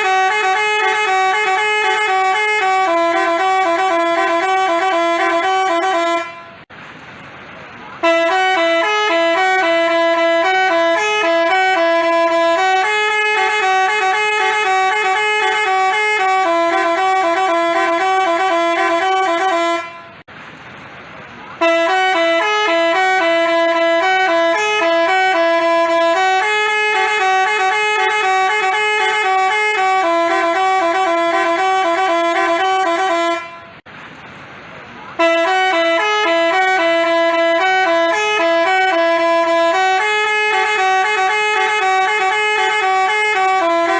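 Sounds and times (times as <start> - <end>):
multi-tone musical bus horn: 0.0 - 6.7, 7.9 - 20.3, 21.5 - 33.9, 35.1 - 43.9.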